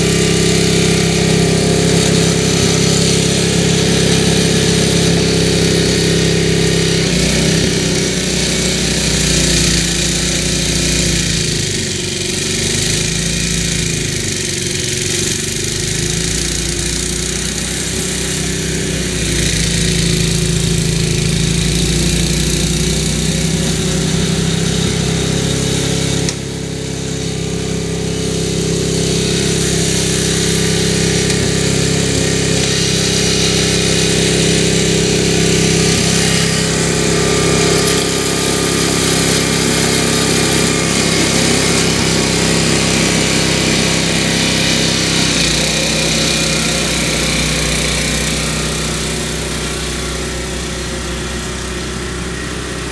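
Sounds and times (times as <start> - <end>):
snowblower engine running: 0.0 - 52.9.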